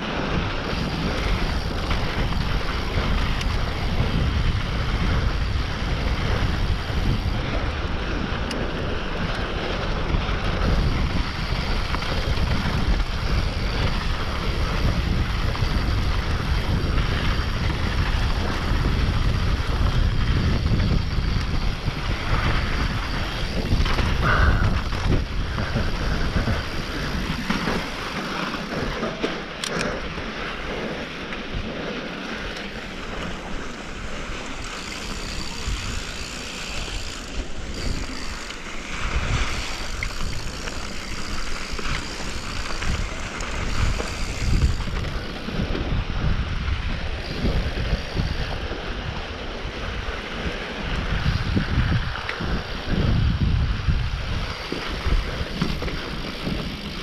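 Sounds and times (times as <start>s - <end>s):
bike tyres on dirt trail: 0.0s - 57.0s
wind buffeting microphone: 0.0s - 57.0s.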